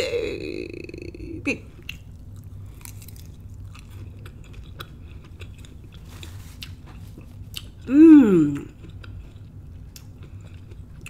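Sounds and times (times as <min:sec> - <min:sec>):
appreciative hum: 0:00.0 - 0:11.0
person chewing salad: 0:01.7 - 0:11.0.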